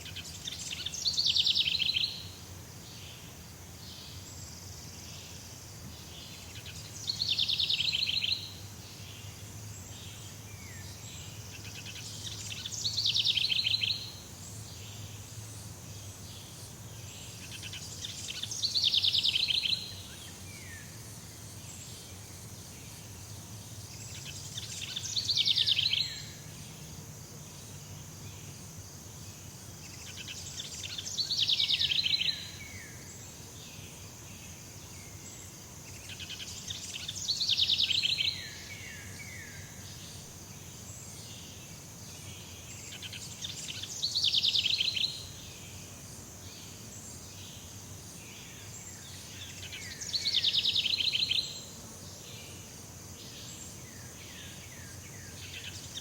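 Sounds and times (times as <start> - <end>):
high insect hiss: 0.0 - 56.0.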